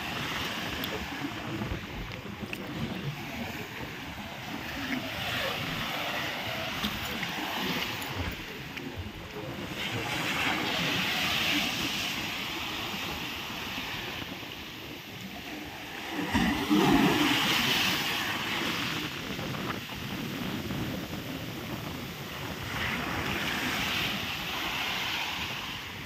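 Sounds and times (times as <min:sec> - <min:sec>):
sea waves washing ashore: 0:00.0 - 0:26.0
wind: 0:00.0 - 0:26.0.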